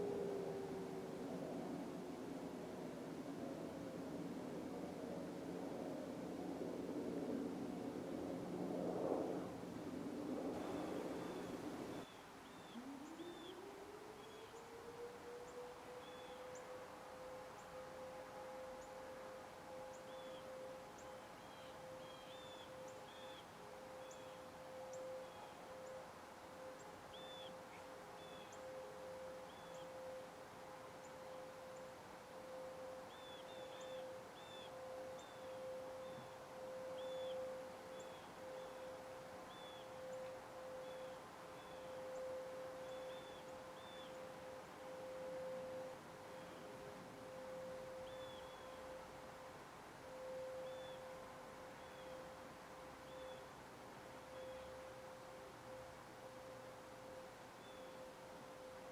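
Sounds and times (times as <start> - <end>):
distant warning siren: 0.0 - 58.9.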